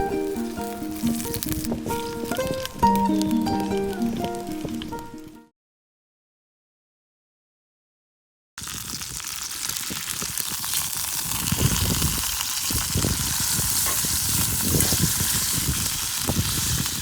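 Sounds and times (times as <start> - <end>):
steak sizzling over fire: 0.0 - 5.4, 8.6 - 17.0.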